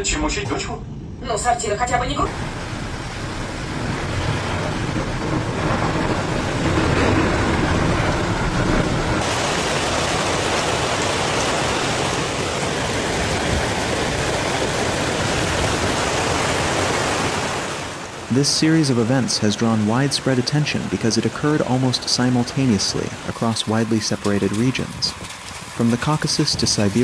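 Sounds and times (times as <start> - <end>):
heavy storm rain pouring: 0.0 - 27.0.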